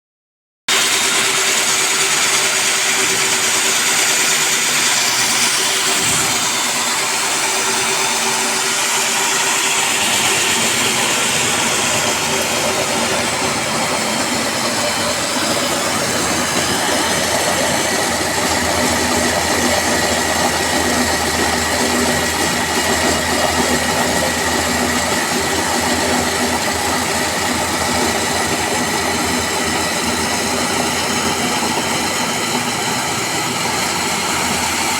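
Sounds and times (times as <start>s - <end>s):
core cutting machine drilling: 0.7s - 34.9s.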